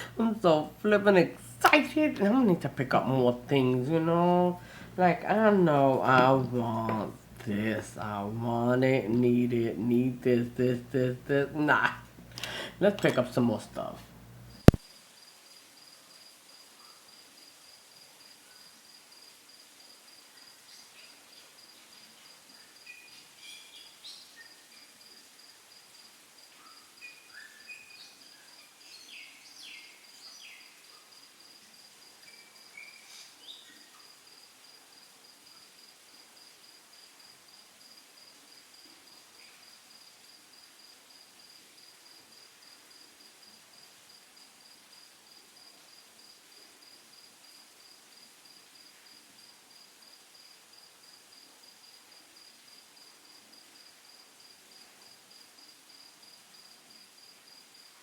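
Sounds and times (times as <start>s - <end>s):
faint room noise: 0.0s - 58.0s.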